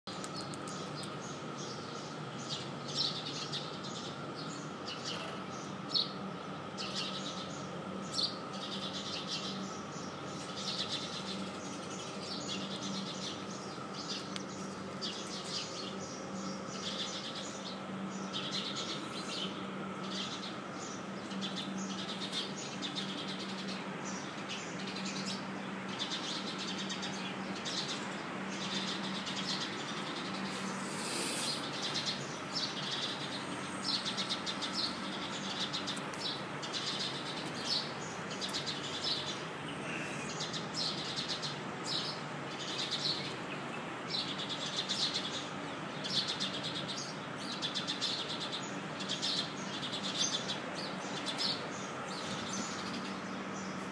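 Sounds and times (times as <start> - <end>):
steady low hum: 0.1 - 46.1
small birds chirping: 0.1 - 53.9.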